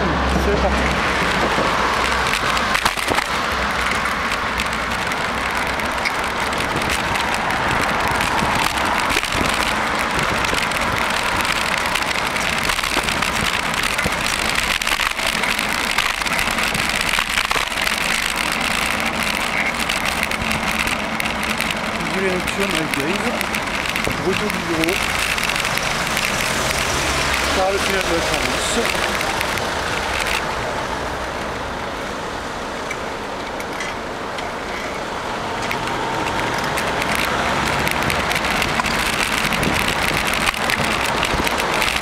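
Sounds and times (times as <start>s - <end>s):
road noise hiss: 0.0s - 42.0s
bicycle clicks and knocks: 0.8s - 30.6s, 32.8s - 42.0s.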